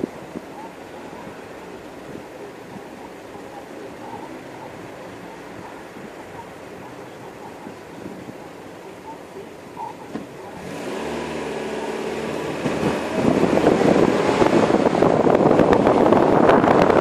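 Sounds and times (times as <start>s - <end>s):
car engine accelerating: 0.0s - 17.0s
rushing wind and road noise: 0.0s - 17.0s.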